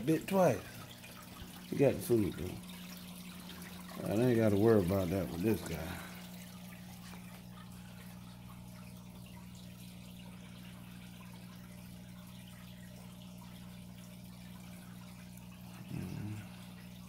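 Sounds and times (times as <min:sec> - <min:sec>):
low electric hum: 0:00.0 - 0:17.0
water trickling and bubbling: 0:00.0 - 0:17.0.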